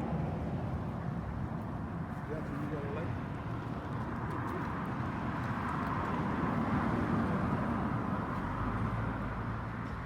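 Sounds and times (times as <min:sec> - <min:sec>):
road vehicle passing: 0:00.0 - 0:10.0.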